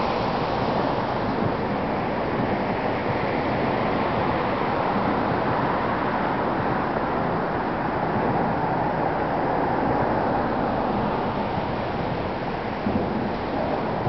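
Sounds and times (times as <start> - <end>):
road traffic passing: 0.0 - 14.0
wind noise on microphone: 0.0 - 14.0.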